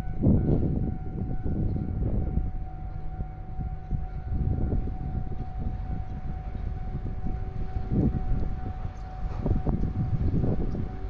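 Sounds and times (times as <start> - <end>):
level crossing alarm tone: 0.0 - 11.0
locomotive rumble: 0.0 - 11.0.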